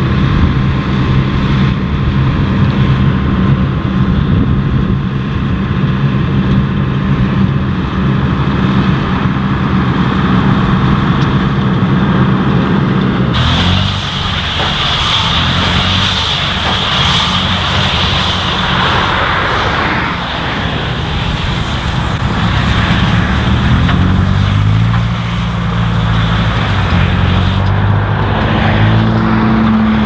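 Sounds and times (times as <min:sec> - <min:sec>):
engine running: 0:00.0 - 0:30.0
rushing machinery noise: 0:00.0 - 0:30.0.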